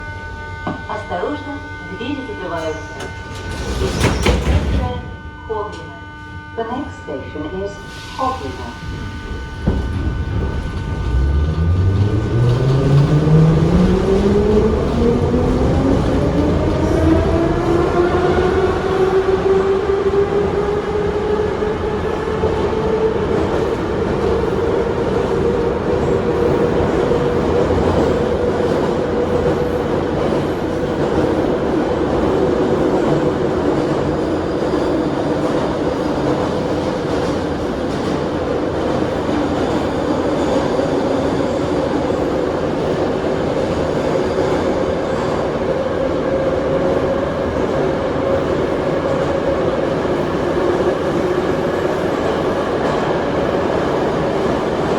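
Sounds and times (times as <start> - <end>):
wheels rumbling on rail: 7.7 - 54.9.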